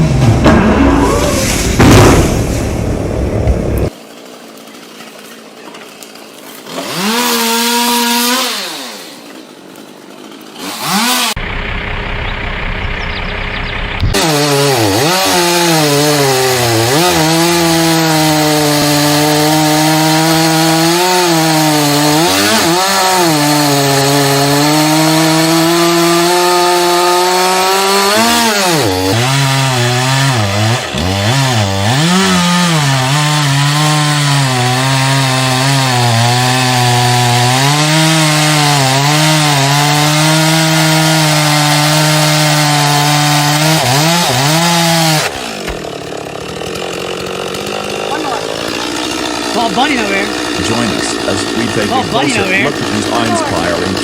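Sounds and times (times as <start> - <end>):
chainsaw cutting wood: 3.5 - 11.4, 14.0 - 54.0.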